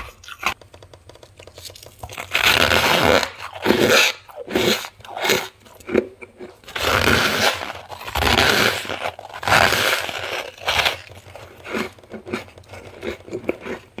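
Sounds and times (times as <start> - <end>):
crunching of chewed frost: 1.4 - 14.0.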